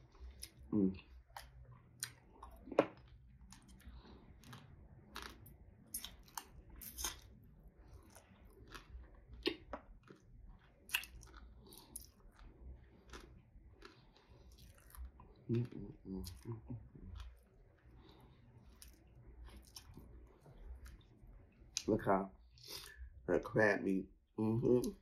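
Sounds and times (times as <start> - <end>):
chewing and mouth sounds: 0.0 - 21.9.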